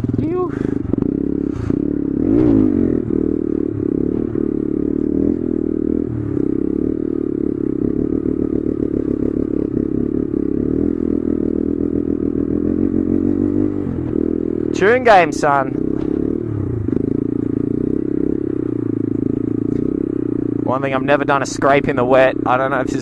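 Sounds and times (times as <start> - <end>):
motorcycle engine at steady throttle: 0.0 - 23.0.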